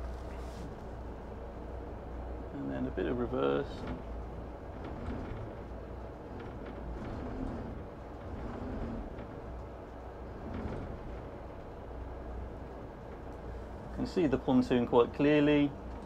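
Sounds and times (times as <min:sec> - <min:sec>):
diesel engines low hum: 0:00.0 - 0:16.0.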